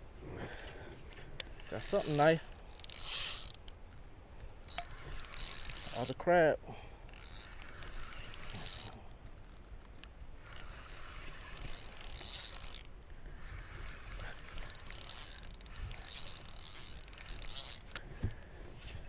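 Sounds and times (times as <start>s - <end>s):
fishing reel whirring: 1.4s - 18.6s.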